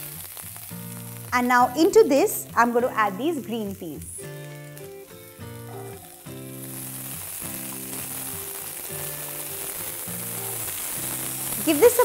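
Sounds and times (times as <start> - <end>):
peas sizzling in hot oil: 0.0 - 12.0.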